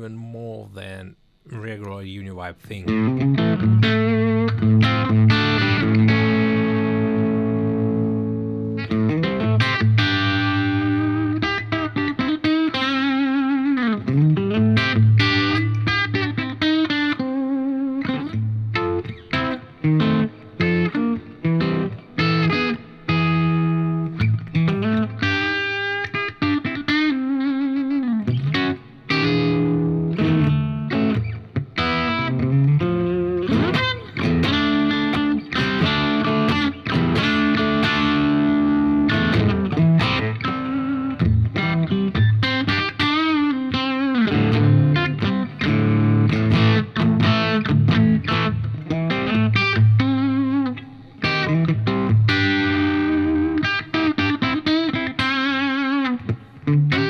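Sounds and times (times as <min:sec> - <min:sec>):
overdriven electric guitar with vibe: 0:02.8 - 0:57.0.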